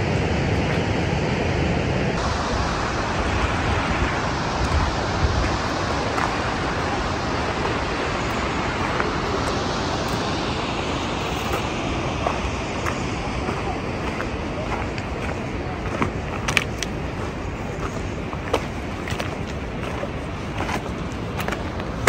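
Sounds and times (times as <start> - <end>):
stream and waterfall rushing: 2.0 - 22.0.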